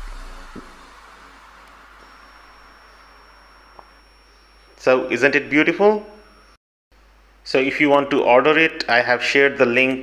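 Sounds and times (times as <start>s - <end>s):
steady low hiss: 0.0s - 6.4s, 7.0s - 10.0s
faint high whine: 0.0s - 10.0s.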